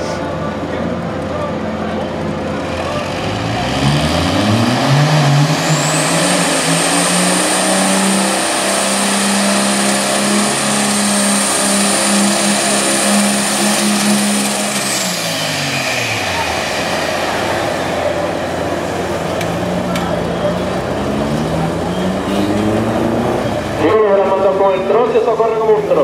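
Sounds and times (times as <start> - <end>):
engine revving high: 2.5 - 26.0.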